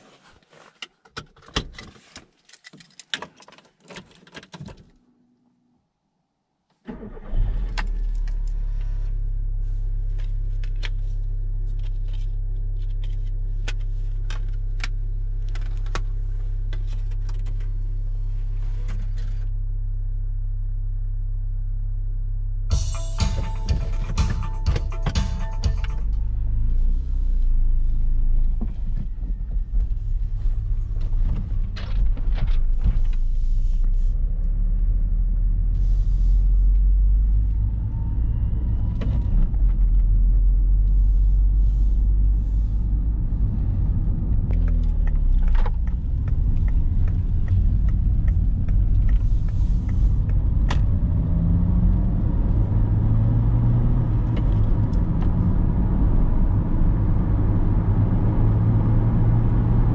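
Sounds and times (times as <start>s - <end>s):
car engine and road rumble: 6.7s - 59.9s.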